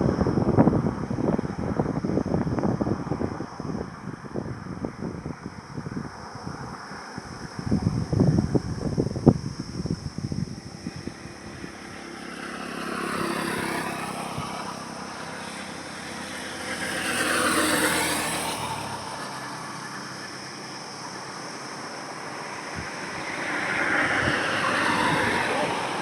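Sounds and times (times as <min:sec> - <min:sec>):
vehicles passing on highway: 0:00.0 - 0:26.0.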